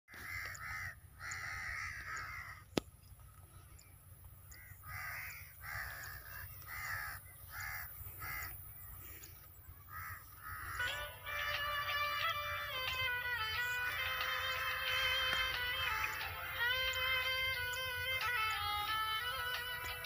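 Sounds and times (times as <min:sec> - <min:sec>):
crow cawing: 0:00.1 - 0:02.8, 0:04.4 - 0:18.4.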